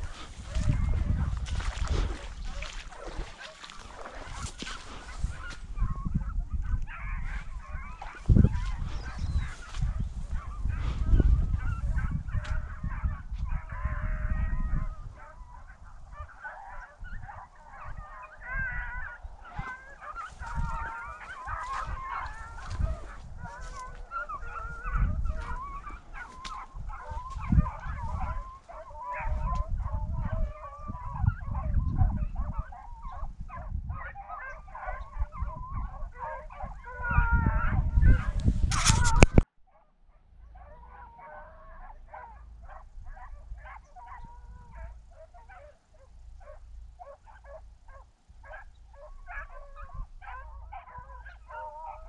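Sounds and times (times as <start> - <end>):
pack of hounds baying: 0.0 - 52.0.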